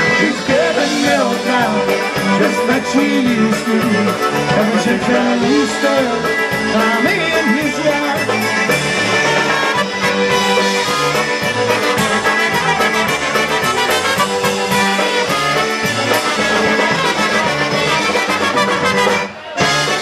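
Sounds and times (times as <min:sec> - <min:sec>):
low bass notes: 0:00.0 - 0:20.0
steady beat: 0:00.0 - 0:20.0
trumpets playing polka tune: 0:00.0 - 0:20.0.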